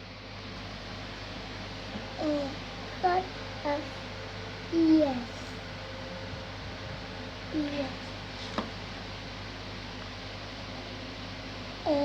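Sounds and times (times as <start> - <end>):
low even hum: 0.0 - 12.0.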